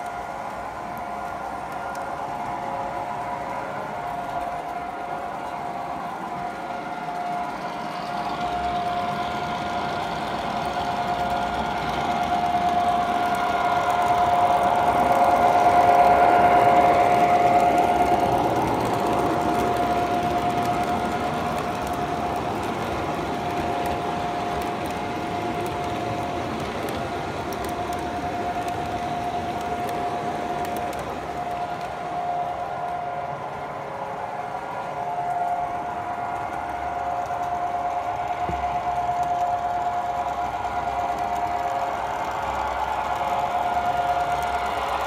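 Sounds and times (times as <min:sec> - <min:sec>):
model train running: 0:00.0 - 0:45.0
wheels rolling on track: 0:00.0 - 0:45.0.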